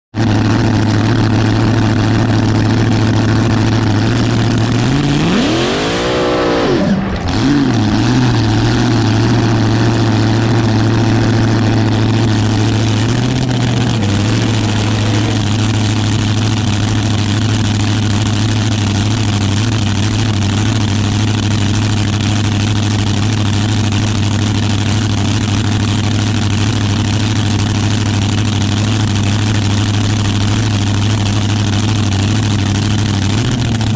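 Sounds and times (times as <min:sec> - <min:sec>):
dragster engine idling and revving: 0:00.1 - 0:33.9.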